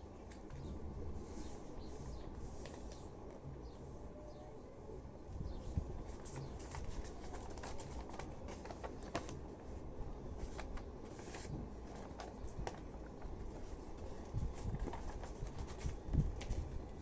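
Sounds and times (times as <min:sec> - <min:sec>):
paper crinkling and creasing: 0:00.2 - 0:03.0, 0:05.7 - 0:17.0.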